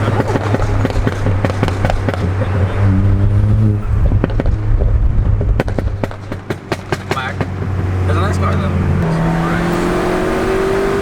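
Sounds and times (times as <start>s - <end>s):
car engine accelerating: 0.0s - 11.0s
exhaust pops and crackles: 0.0s - 11.0s.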